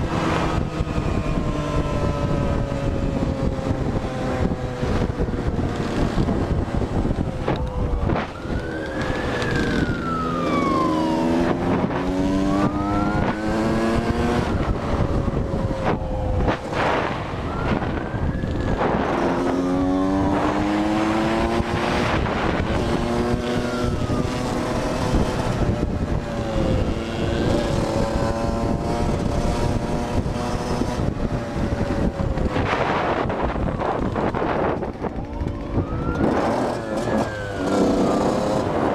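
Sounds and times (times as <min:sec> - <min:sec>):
engine revving: 0:00.0 - 0:38.9
police siren wailing: 0:00.0 - 0:38.9
wind and road noise: 0:00.0 - 0:38.9.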